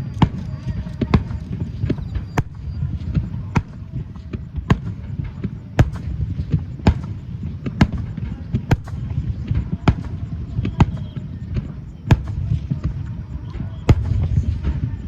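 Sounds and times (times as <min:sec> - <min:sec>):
continuous low rumble: 0:00.0 - 0:15.0
fireworks bangs: 0:00.0 - 0:15.0.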